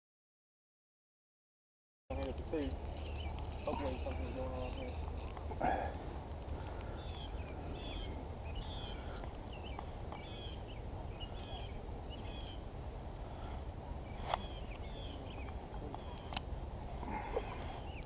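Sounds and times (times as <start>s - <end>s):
bird chirping: 2.1s - 6.0s, 6.6s - 12.7s, 13.3s - 18.0s
low outdoor background noise: 2.1s - 18.0s.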